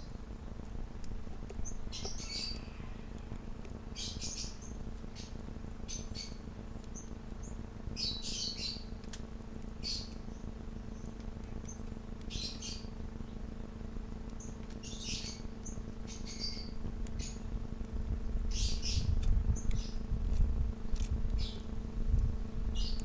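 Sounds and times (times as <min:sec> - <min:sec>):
low hum: 0:00.0 - 0:23.0
songbirds chirping: 0:01.4 - 0:20.2, 0:21.3 - 0:21.8, 0:22.5 - 0:23.0.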